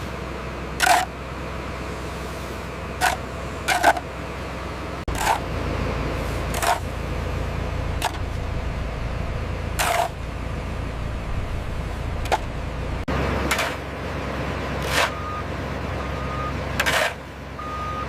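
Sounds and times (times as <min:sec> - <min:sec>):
construction machinery diesel rumble: 0:00.0 - 0:18.0.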